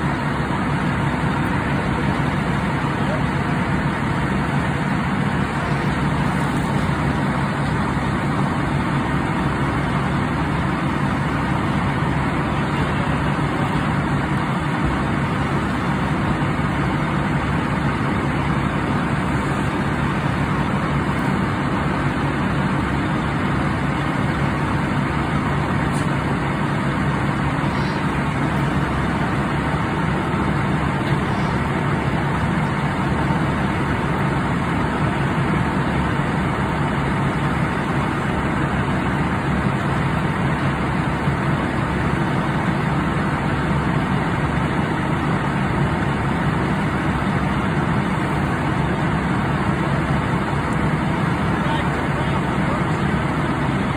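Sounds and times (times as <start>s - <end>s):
diesel engine low hum: 0.0s - 53.9s.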